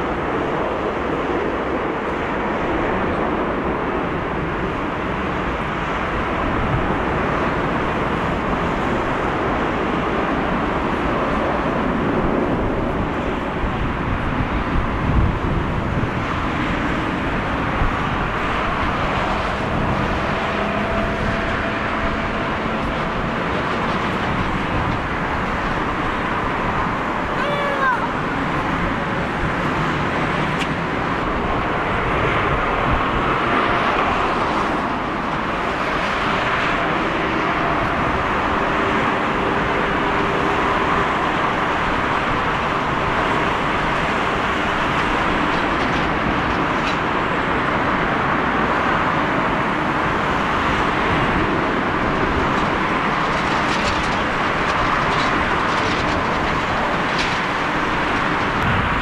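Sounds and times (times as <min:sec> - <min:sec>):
jet engines roaring at takeoff: 0:00.0 - 0:59.0.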